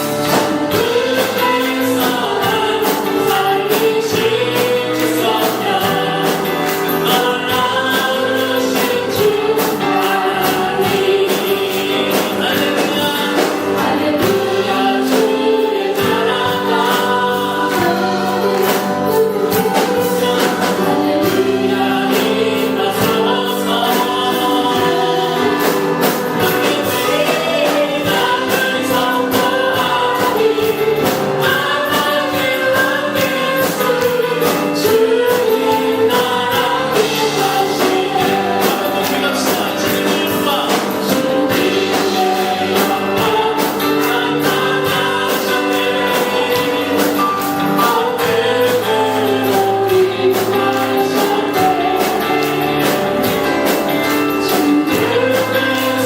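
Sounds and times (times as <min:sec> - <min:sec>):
congregation singing with band: 0:00.0 - 0:56.0.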